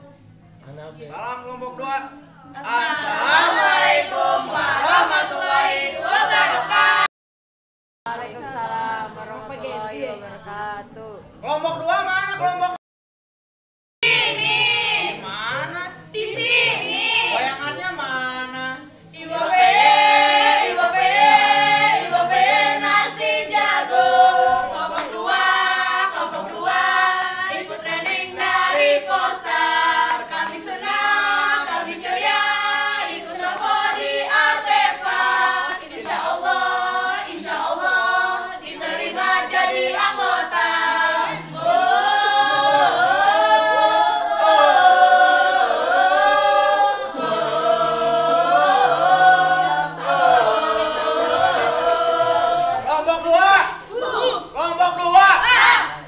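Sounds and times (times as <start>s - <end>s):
group singing in unison: 2.5s - 7.1s, 14.0s - 15.3s, 16.1s - 56.0s.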